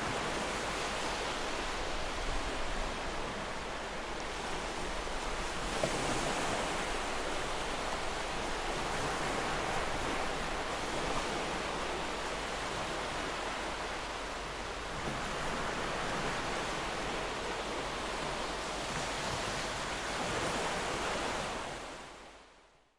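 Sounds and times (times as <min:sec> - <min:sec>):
ocean waves washing ashore: 0:00.0 - 0:22.8.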